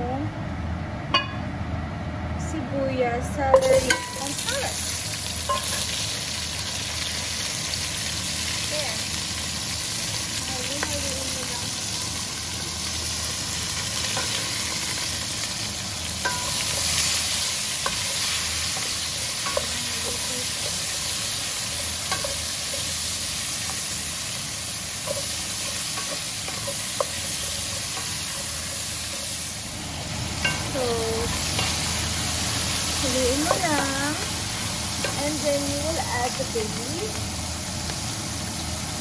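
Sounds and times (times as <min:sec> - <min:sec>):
vegetables sizzling in a pot: 0:02.4 - 0:39.0.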